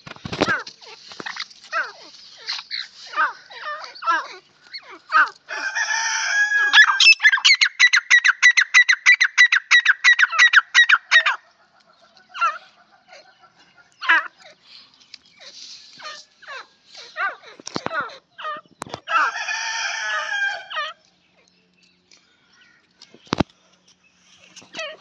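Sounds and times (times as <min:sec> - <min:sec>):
francolins calling: 0:00.4 - 0:25.0.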